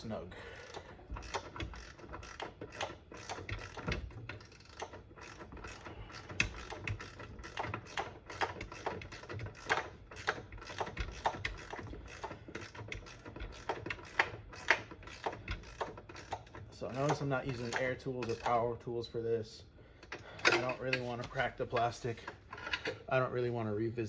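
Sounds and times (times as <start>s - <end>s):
hand ratchet clicking: 0.0s - 18.9s, 20.0s - 23.1s.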